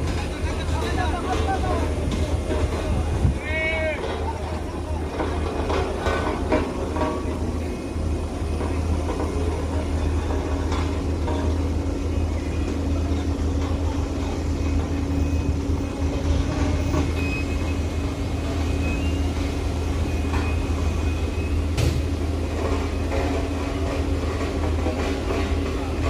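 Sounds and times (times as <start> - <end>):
truck engine droning: 0.0 - 26.0.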